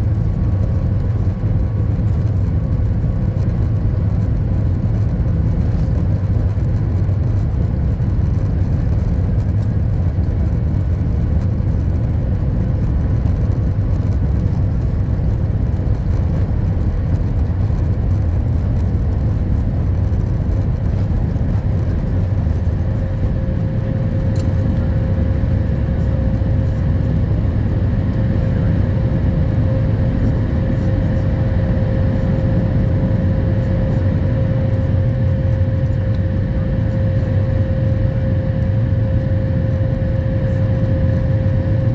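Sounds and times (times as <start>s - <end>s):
faint steady hum: 0.0s - 41.9s
jet engines at take-off power: 0.0s - 41.9s
runway rumble: 0.0s - 41.9s.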